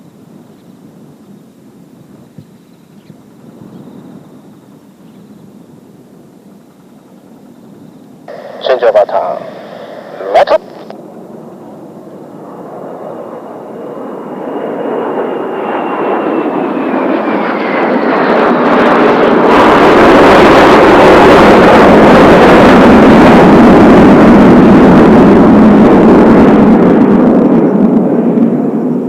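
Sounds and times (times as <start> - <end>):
jet aircraft whine: 0.0 - 29.0.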